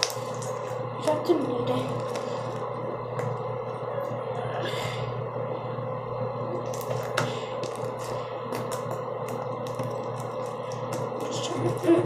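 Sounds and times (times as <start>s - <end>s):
exhaust fan humming: 0.0s - 12.0s.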